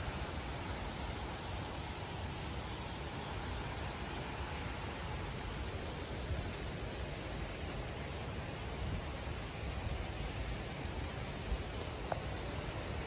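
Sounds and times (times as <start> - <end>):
forest background noise: 0.0 - 13.0.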